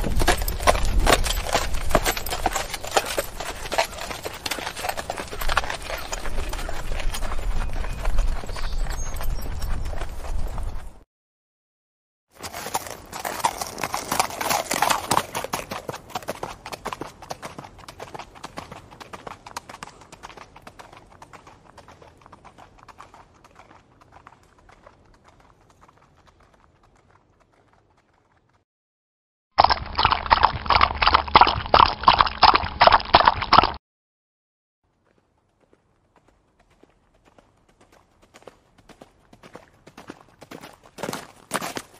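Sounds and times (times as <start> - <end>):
horse hooves clip-clopping: 0.0 - 11.0, 12.4 - 28.6, 35.0 - 41.9
rapid hoofbeats: 0.0 - 11.0, 12.4 - 28.6, 35.6 - 41.9.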